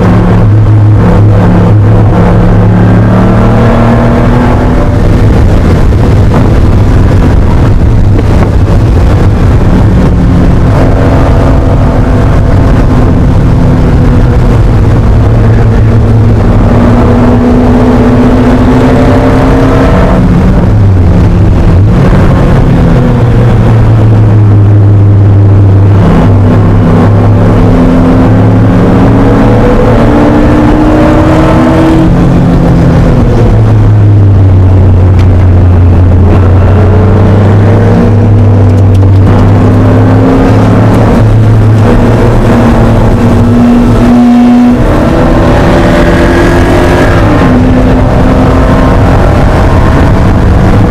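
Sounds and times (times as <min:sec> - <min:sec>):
car engine revving in cabin: 0:00.0 - 0:50.9.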